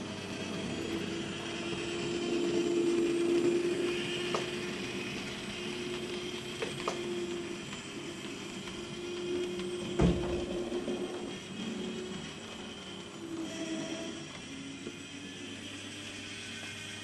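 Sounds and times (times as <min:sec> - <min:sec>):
model train humming: 0:00.0 - 0:17.0.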